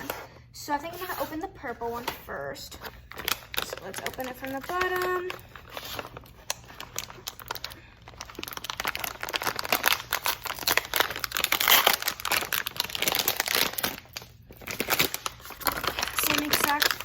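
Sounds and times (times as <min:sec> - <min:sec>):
crinkly wrapper torn and unwrapped: 0:03.1 - 0:17.0.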